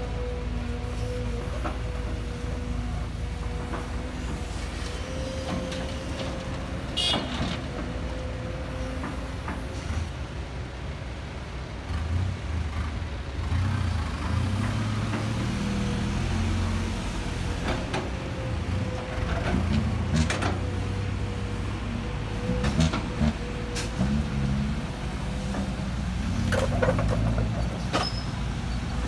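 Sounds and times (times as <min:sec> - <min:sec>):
excavator diesel engine under load: 0:00.0 - 0:29.0.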